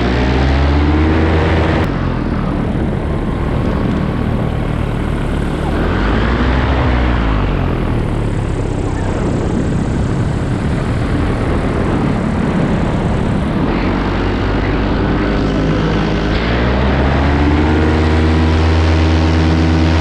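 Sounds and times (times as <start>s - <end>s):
paramotor engine and propeller: 0.0s - 20.0s.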